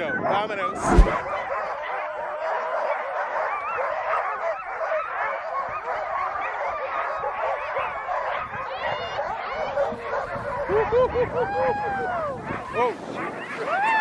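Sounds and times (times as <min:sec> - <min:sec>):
dogs barking and yelping: 0:00.0 - 0:14.0.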